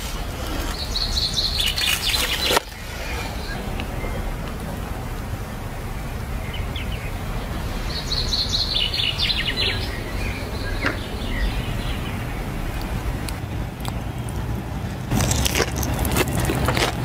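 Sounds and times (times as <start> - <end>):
birds chirping: 0.0 - 17.0
low background rumble: 0.0 - 17.0.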